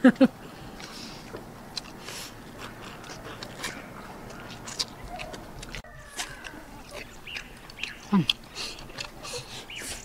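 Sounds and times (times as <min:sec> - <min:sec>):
chewing and gnawing: 0:00.5 - 0:10.0.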